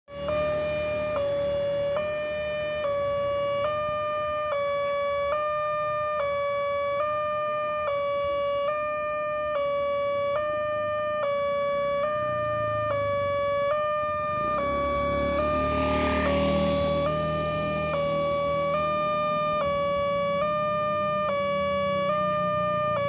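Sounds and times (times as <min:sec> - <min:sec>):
level crossing warning signal: 0:00.1 - 0:23.0.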